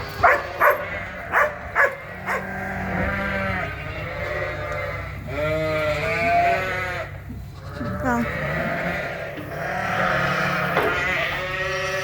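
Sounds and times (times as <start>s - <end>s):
sheep and lambs bleating: 0.0s - 12.0s.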